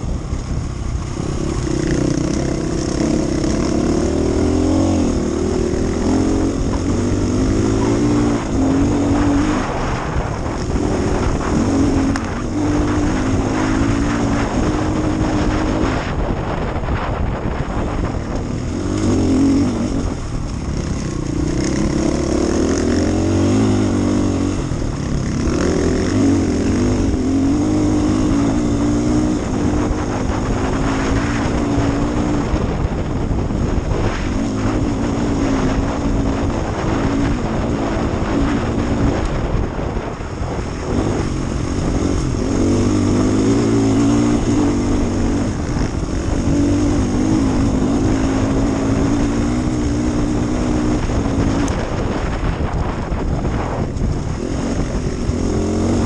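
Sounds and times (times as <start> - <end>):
motorcycle engine running hard: 0.0 - 56.0
tyres rumbling on stony track: 0.0 - 56.0.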